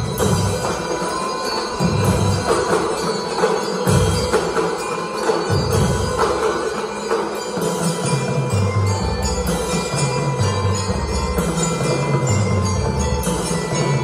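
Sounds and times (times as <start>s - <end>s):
bell lyres playing tune: 0.0s - 14.0s.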